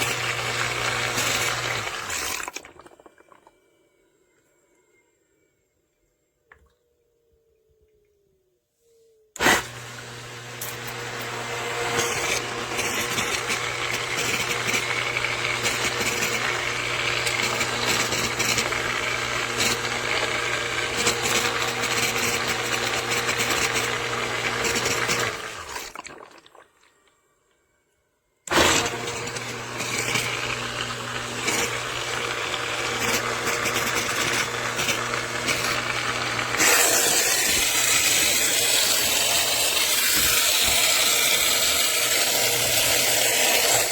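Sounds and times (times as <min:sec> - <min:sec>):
sump pump motor hum: 0:00.0 - 0:03.5, 0:09.4 - 0:26.6, 0:28.5 - 0:43.9.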